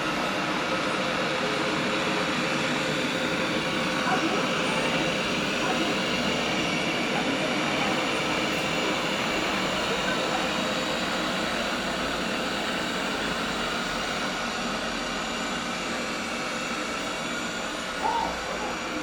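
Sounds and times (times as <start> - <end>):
robot vacuum cleaner whirring: 0.0 - 19.0.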